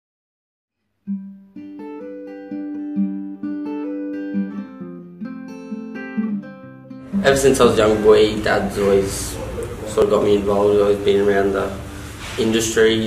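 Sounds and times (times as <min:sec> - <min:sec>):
plucked string melody: 0:01.0 - 0:12.0.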